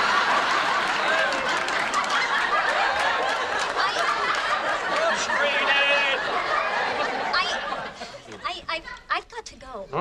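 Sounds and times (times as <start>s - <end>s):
studio audience laughing: 0.0s - 9.0s.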